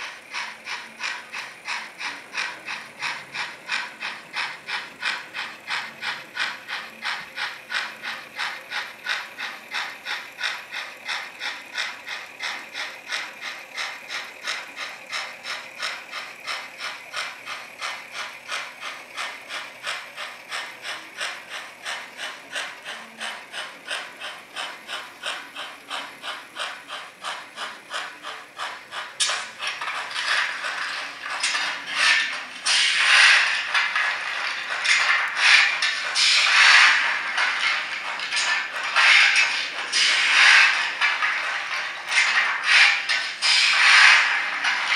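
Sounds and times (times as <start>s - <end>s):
model steam train chuffing: 0.0s - 44.9s.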